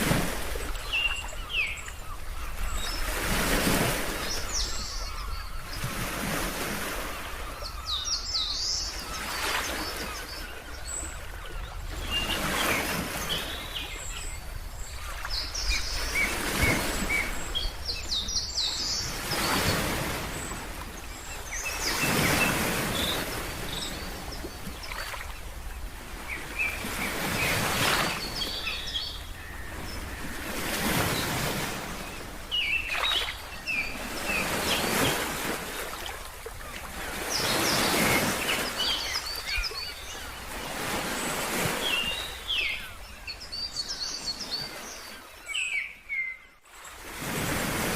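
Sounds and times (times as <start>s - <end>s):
ocean waves washing in: 0.0s - 7.8s, 8.4s - 43.5s
birds chirping: 0.1s - 46.6s.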